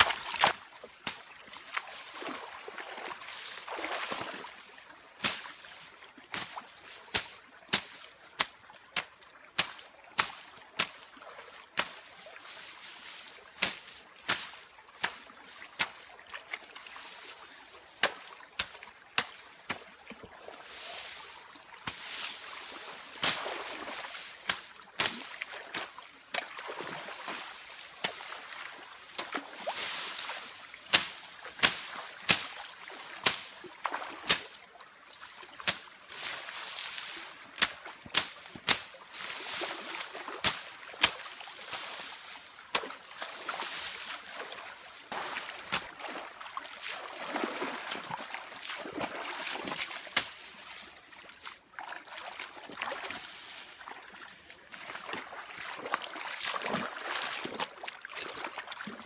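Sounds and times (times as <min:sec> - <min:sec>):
splashing in shallow water: 0:00.0 - 0:59.0.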